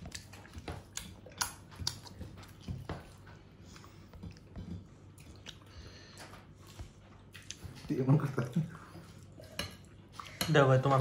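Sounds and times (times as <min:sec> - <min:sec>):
person chewing and eating: 0:00.0 - 0:10.4.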